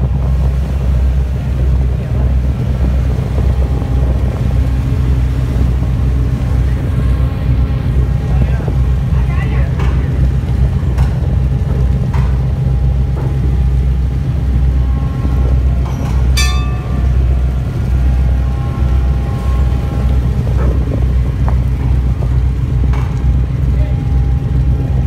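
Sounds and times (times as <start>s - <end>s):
tugboat engines rumbling: 0.0s - 25.0s.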